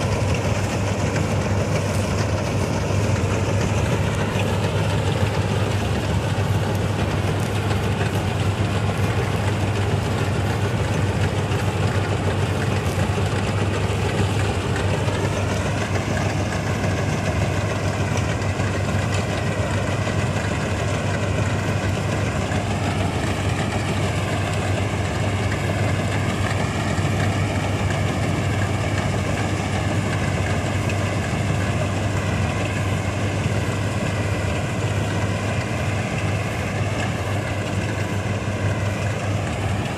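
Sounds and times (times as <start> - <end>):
combine harvester humming: 0.0 - 39.9.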